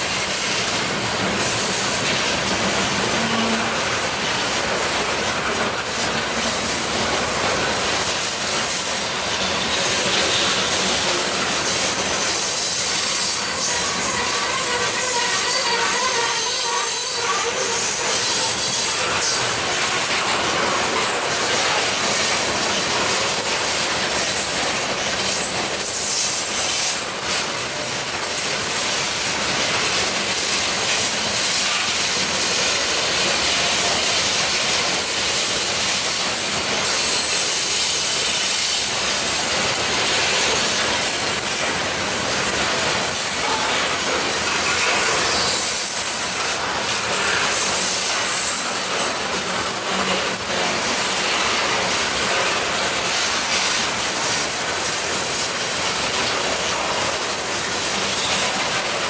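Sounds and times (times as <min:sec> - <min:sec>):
train wheels rushing on rails: 0:00.0 - 0:59.0.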